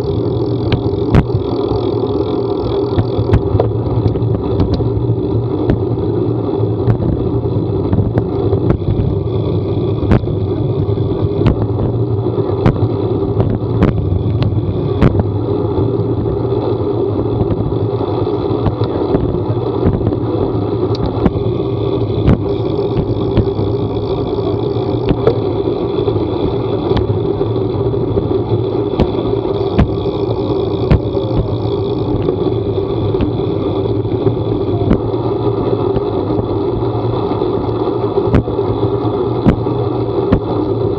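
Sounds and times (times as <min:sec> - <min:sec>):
vehicle running noise: 0:00.0 - 0:40.9.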